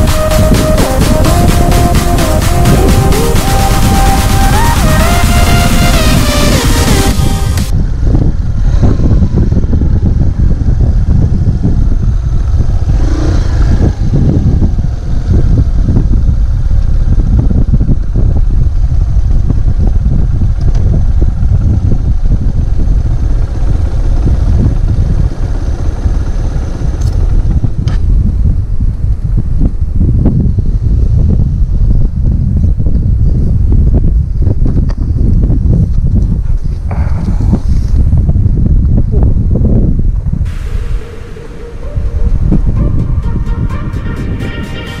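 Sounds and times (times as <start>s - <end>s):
motorcycle engine running: 0.0s - 45.0s
wind buffeting microphone: 0.0s - 45.0s.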